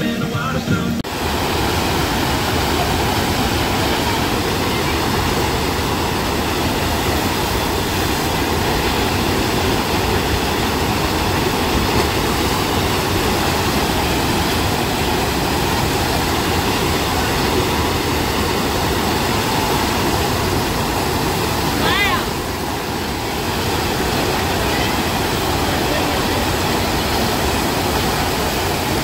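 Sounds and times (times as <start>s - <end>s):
loud rush of water: 0.7s - 29.0s.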